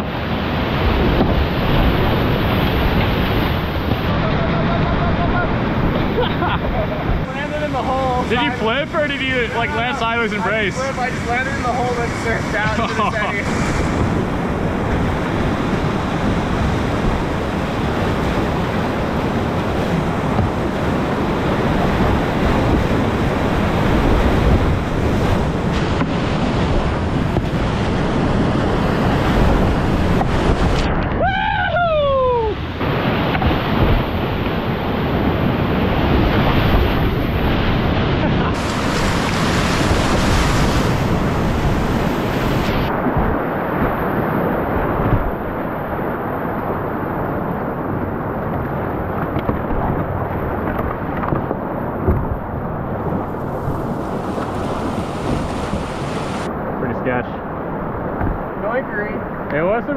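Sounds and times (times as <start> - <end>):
whitewater rapids rushing: 0.0 - 57.2.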